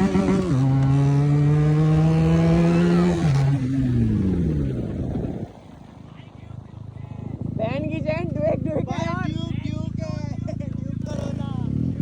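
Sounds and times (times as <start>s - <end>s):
motorcycles accelerating hard: 0.0s - 12.0s.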